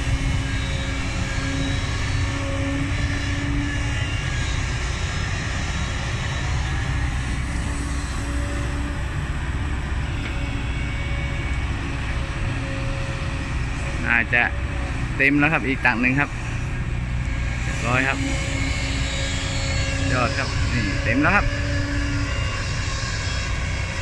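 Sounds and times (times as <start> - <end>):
excavator diesel engine running: 0.0 - 24.0
hydraulic humming tone: 0.0 - 24.0.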